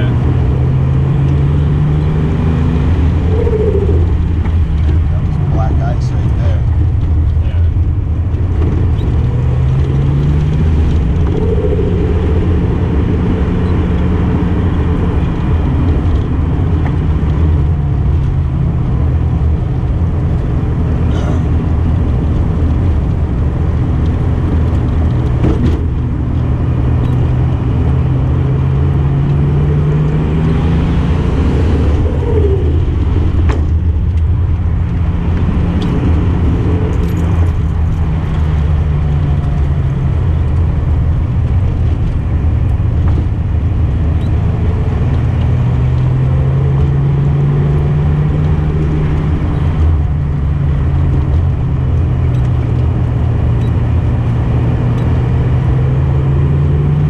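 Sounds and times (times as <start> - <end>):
car engine running: 0.0 - 57.0
road rumble: 0.0 - 57.0.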